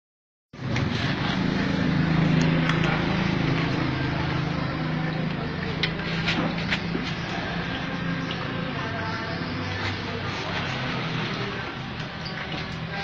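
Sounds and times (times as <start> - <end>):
motorcycle engine running: 0.6 - 13.0.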